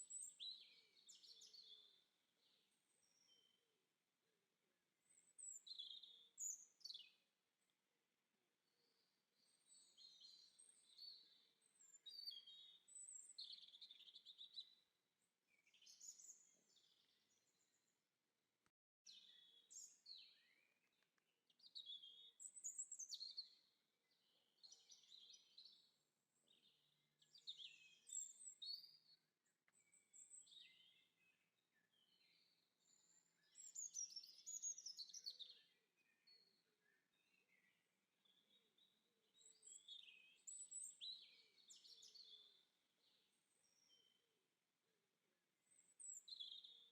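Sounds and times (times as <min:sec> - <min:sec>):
small songbirds chirping: 0:00.0 - 0:18.0, 0:19.1 - 0:44.5, 0:45.6 - 0:46.9.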